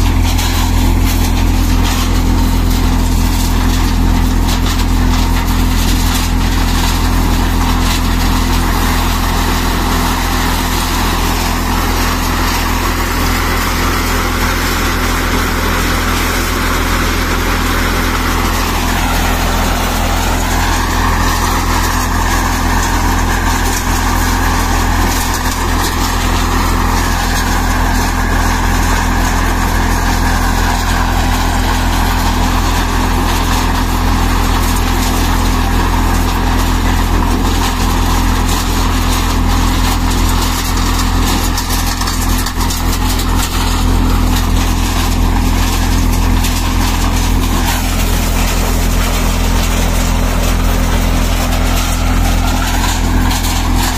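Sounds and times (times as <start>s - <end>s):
low engine hum: 0.0s - 53.9s
thresher mechanical whir: 0.0s - 53.9s.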